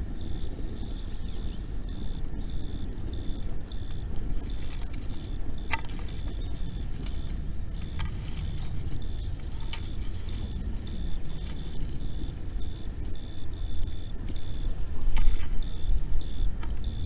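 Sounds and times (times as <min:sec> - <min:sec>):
campfire burning: 0:00.0 - 0:17.0.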